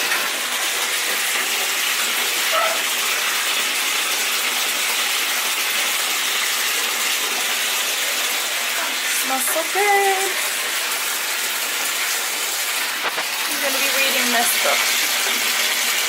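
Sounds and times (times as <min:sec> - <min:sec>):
bathtub tap running water: 0:00.0 - 0:16.0.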